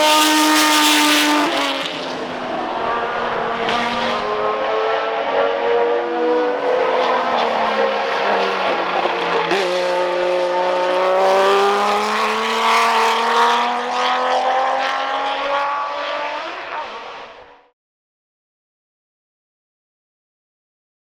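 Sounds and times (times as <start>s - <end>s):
race car engine accelerating: 0.0s - 17.7s.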